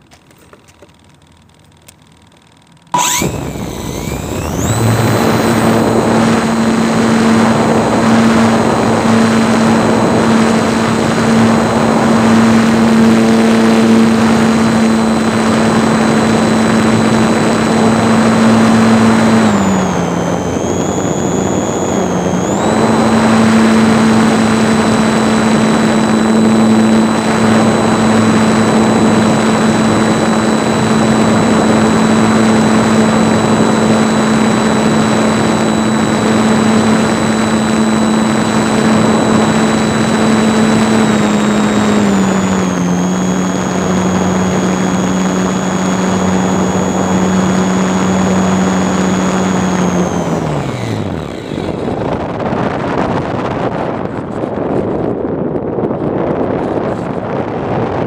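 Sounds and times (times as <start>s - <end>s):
model airplane motor whining: 0.3s - 58.0s.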